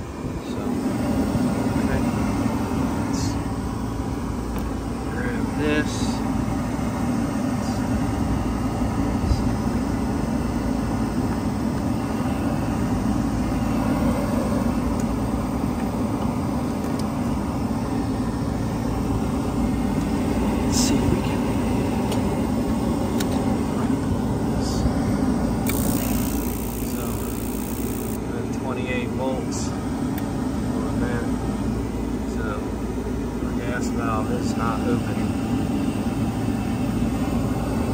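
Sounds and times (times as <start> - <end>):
hvac equipment drone: 0.0 - 37.9.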